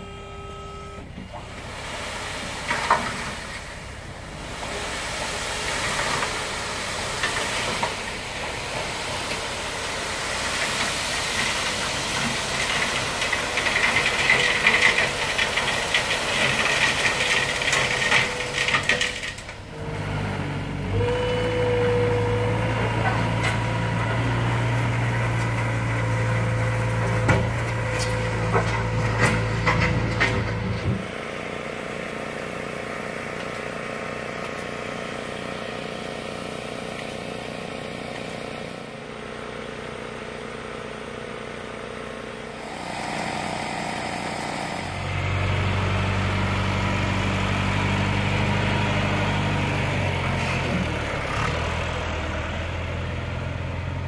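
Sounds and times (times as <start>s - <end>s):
diesel engine running: 0.0s - 54.0s
gravel rattling from dump trailer: 1.1s - 42.4s, 44.3s - 54.0s.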